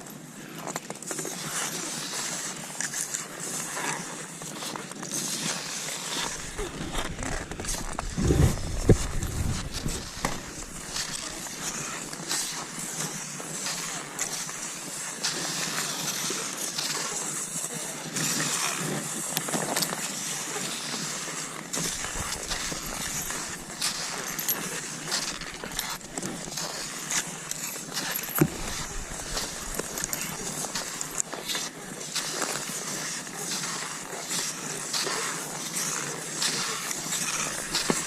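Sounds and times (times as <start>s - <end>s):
skis sliding over snow: 0.0s - 38.0s.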